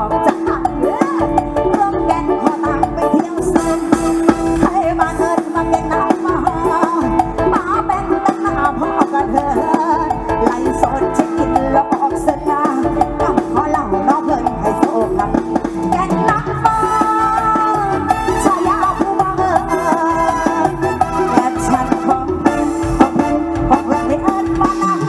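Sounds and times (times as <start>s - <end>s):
drum and bass beat: 0.0s - 25.0s.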